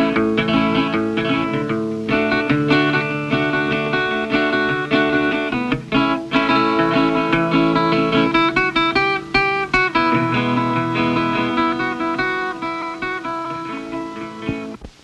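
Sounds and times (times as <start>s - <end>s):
plucked guitar notes: 0.0s - 15.0s.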